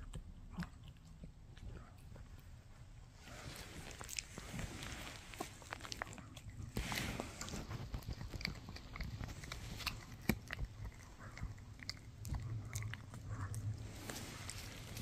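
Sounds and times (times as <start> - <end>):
dog chewing and gnawing: 0.0 - 15.0.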